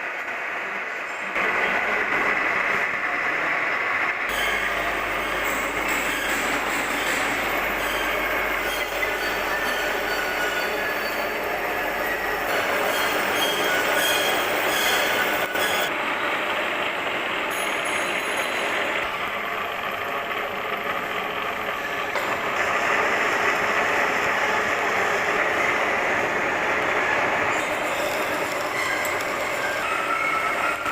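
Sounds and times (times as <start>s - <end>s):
lathe running: 0.0s - 30.9s.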